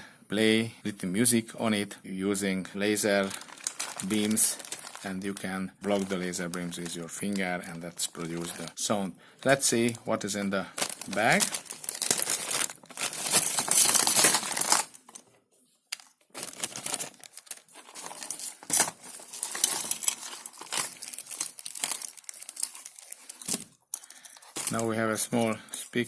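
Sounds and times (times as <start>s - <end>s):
plastic bag crinkling: 3.1s - 8.8s, 9.4s - 26.0s.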